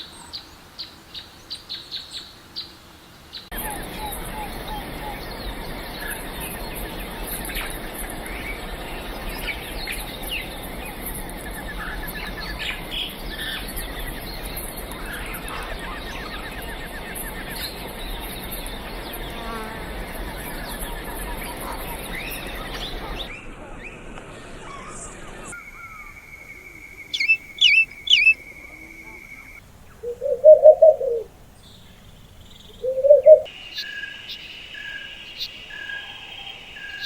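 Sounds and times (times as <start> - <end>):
birds chirping and trilling: 0.0 - 37.0.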